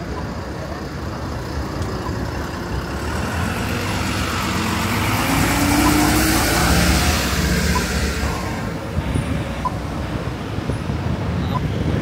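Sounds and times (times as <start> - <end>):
bus driving past: 0.0 - 11.0
street traffic: 0.0 - 12.0.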